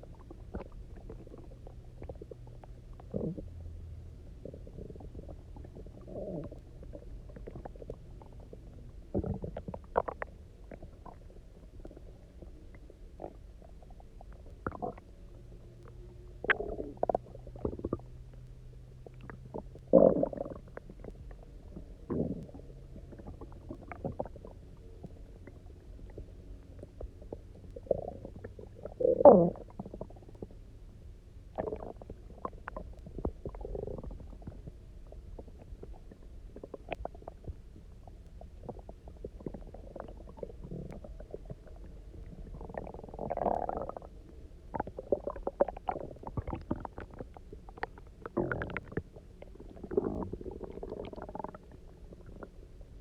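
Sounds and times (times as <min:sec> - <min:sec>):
stomach rumbling and gurgling: 0:00.0 - 0:53.0.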